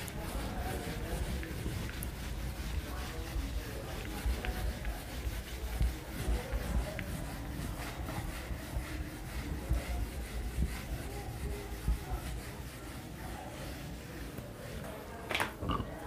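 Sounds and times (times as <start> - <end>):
duster rubbing whiteboard: 0.0 - 15.2.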